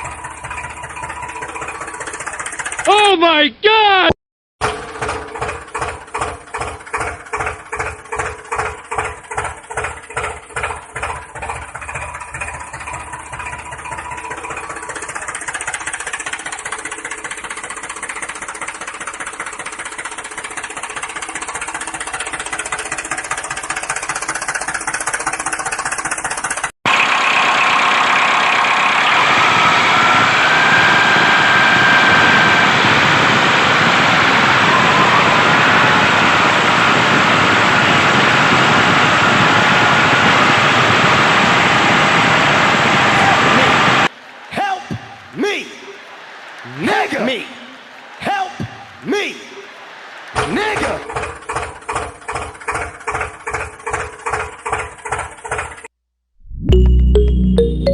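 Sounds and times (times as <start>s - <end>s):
hissy steady engine run with whine: 0.0s - 2.9s, 4.7s - 49.0s
small engine chugging: 0.0s - 3.0s, 4.6s - 36.0s, 42.8s - 55.9s.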